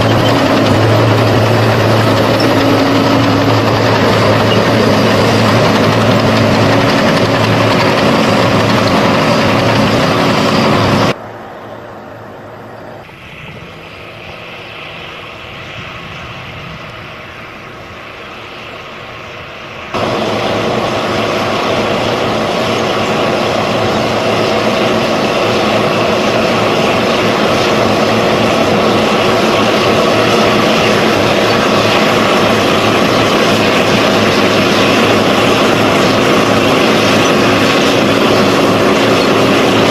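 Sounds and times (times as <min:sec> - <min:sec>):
heavy tractor engines running: 0:00.0 - 0:39.9.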